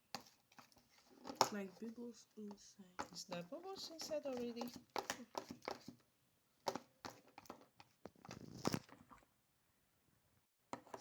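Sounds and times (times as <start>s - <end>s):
slime being stirred: 0.0s - 9.3s.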